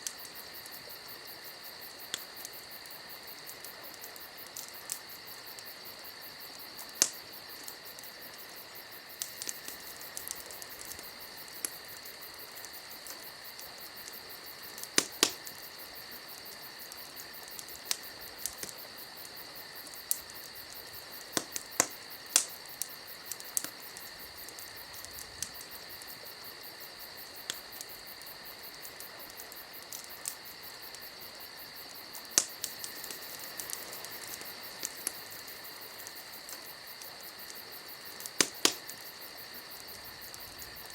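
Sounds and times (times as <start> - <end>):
sharp crackles and pops: 0.0 - 40.9
high insect-like chirring: 0.1 - 40.9.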